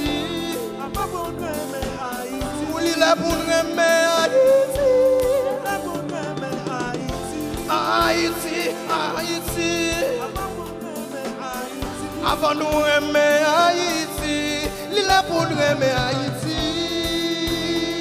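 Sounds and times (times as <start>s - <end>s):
live band with keyboard and guitars: 0.0s - 18.0s
man singing: 0.0s - 18.0s.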